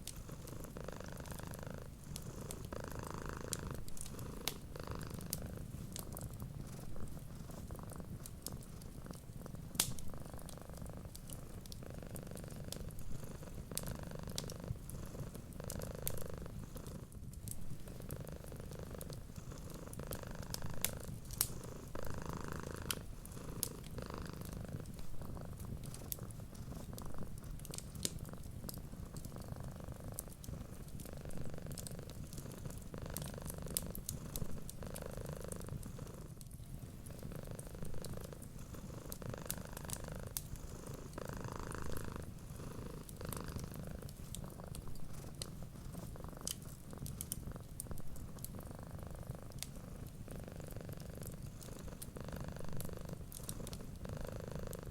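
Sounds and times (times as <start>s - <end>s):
cat purring: 0.0s - 54.9s
wood fire crackling: 0.0s - 54.9s.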